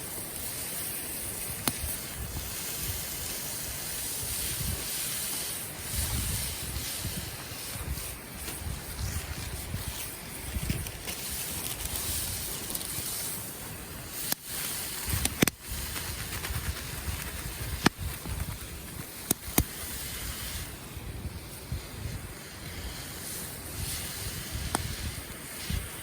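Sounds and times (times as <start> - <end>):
wind buffeting microphone: 1.4 - 5.0, 5.8 - 12.7, 15.0 - 26.0.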